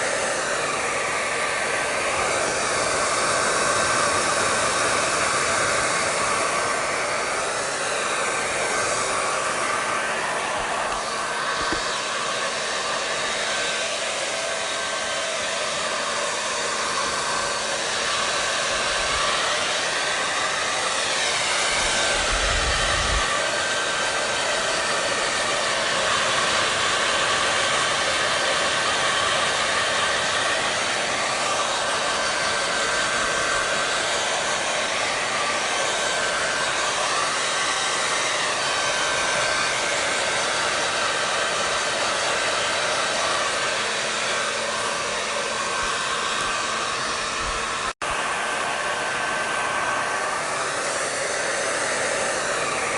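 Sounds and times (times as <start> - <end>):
hair dryer running: 0.0 - 52.9.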